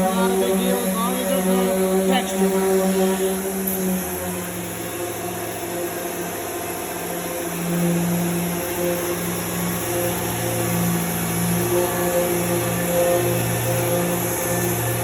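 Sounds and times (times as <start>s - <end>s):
sander whirring: 0.0s - 15.0s.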